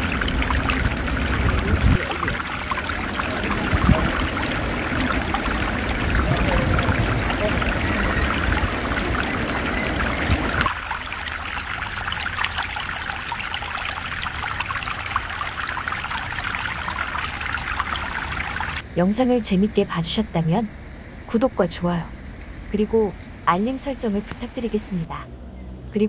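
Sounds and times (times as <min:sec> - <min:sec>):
stream water flowing: 0:00.0 - 0:25.1.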